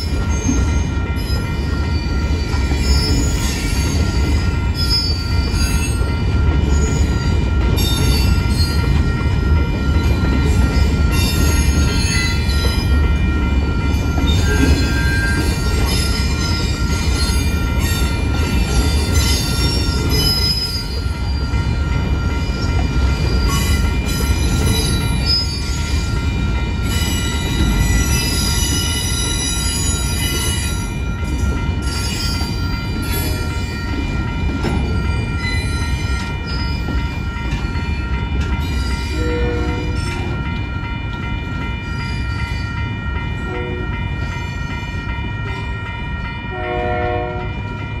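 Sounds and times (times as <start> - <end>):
crossing bell ringing: 0.0 - 48.0
freight train rumbling: 0.0 - 48.0
squealing train wheels: 0.0 - 48.0.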